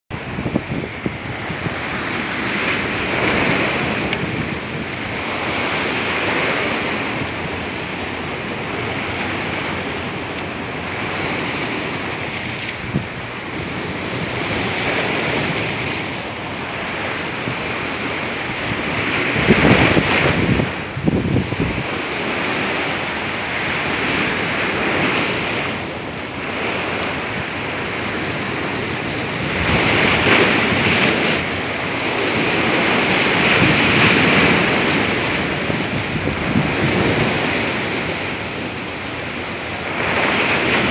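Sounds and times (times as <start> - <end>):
surf breaking against rocks: 0.1 - 40.9
wind buffeting microphone: 0.1 - 40.9.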